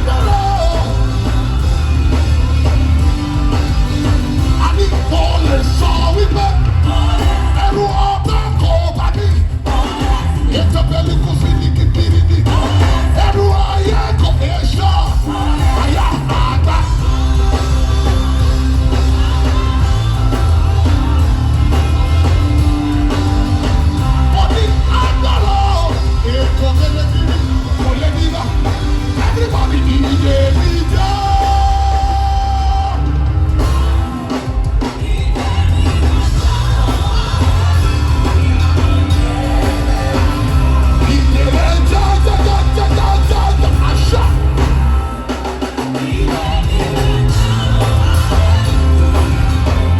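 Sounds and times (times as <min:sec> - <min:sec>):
heavy bass line: 0:00.0 - 0:49.9
live worship band music: 0:00.0 - 0:49.9
voices singing and shouting: 0:00.0 - 0:49.9.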